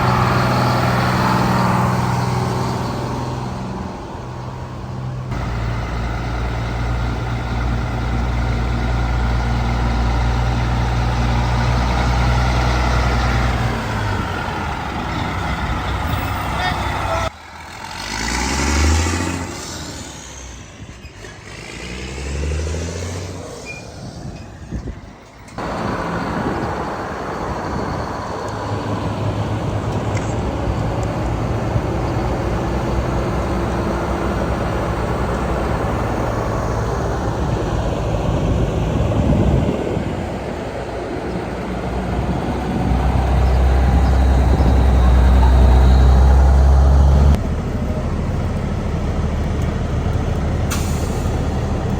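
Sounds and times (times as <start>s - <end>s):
trucks driving past: 0.0s - 51.9s.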